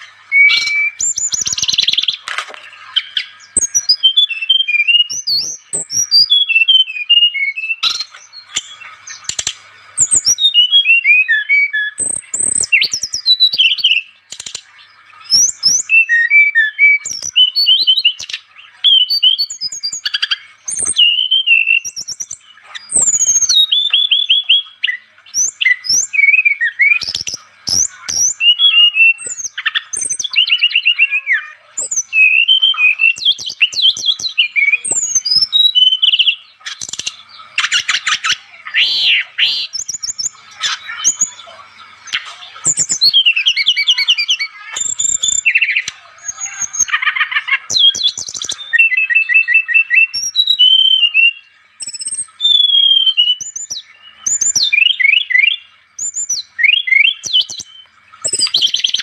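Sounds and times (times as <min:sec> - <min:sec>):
bird song with chirps and trills: 0:00.0 - 0:59.0.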